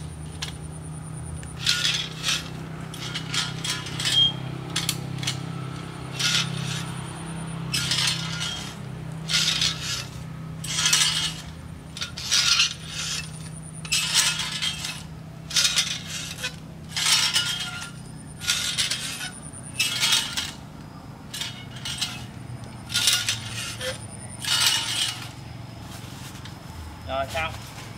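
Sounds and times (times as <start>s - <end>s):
metal clinks and rattles: 0.0s - 20.7s, 21.3s - 25.5s.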